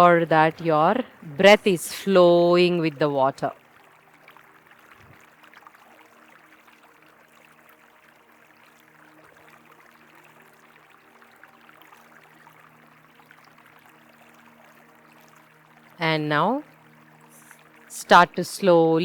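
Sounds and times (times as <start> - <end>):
flowing river water: 0.0 - 19.0
low steady hum: 0.0 - 19.0.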